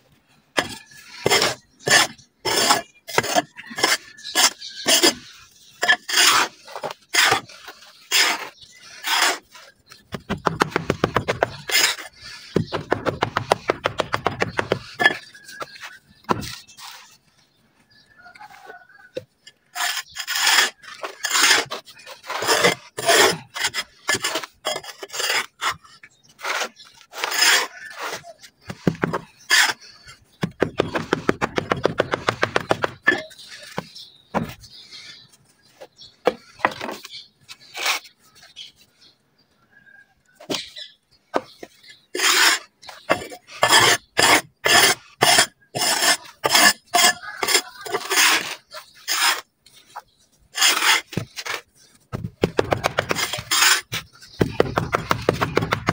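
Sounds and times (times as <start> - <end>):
dirt being scraped: 0.6 - 17.5, 19.6 - 38.7, 41.4 - 55.9.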